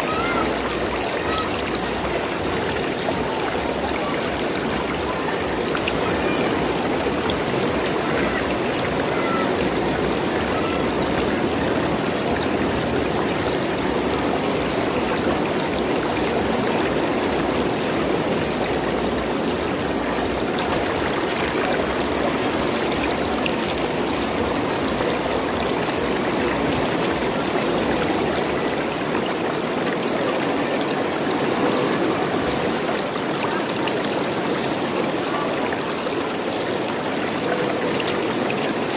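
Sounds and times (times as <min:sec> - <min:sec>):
running water gurgling: 0:00.0 - 0:38.9.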